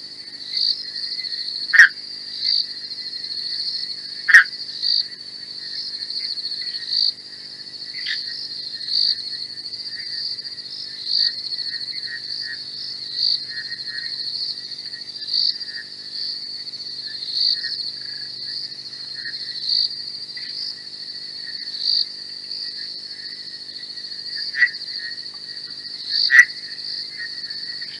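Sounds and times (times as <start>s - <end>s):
low insect chirps: 0.0s - 28.0s
high-pitched insect trill: 0.3s - 28.0s.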